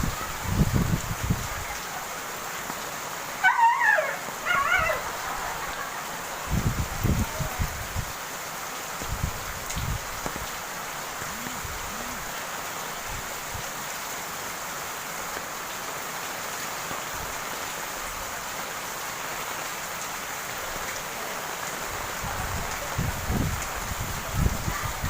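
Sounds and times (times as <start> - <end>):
heavy rain splashing: 0.0 - 25.0.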